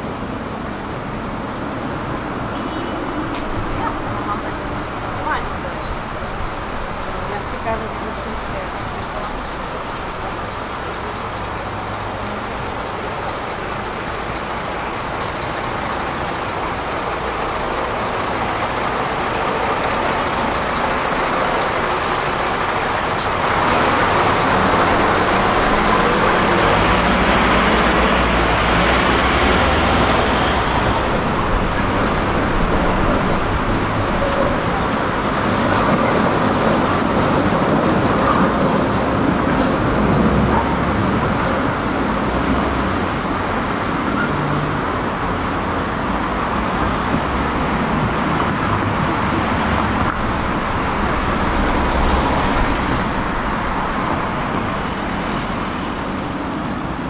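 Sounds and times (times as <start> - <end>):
car and truck engines passing: 0.0 - 57.0
tyre and road noise: 0.0 - 57.0.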